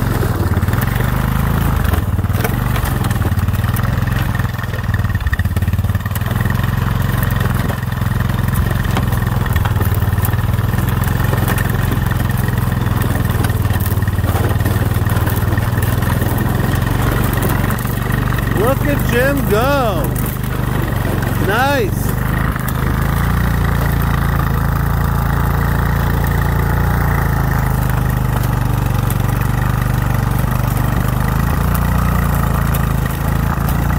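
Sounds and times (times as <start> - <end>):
atv engine humming: 0.0 - 33.9.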